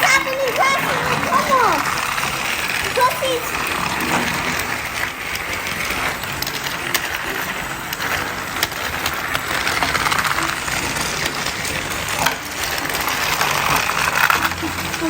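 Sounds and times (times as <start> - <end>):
toy train motors whirring: 0.0 - 15.0
toy train wheels clattering: 0.0 - 15.0.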